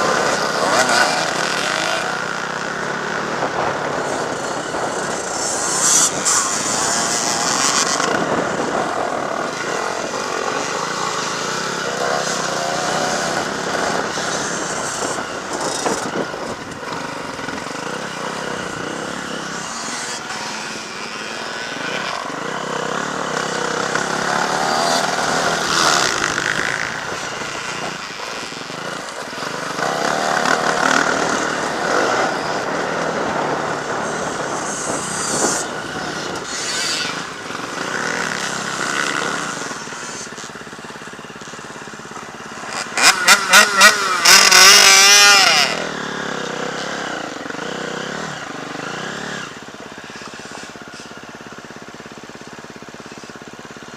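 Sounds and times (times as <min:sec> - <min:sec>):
motocross bikes revving: 0:00.0 - 0:53.9.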